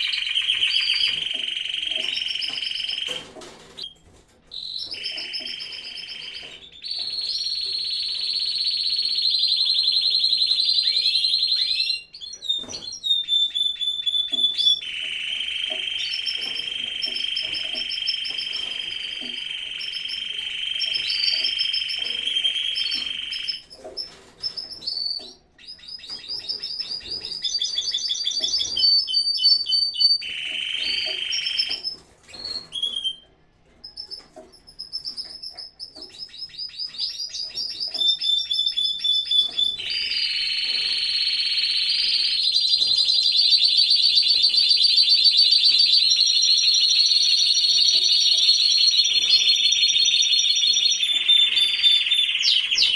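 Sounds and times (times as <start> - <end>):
canaries singing trills: 0.0 - 52.9.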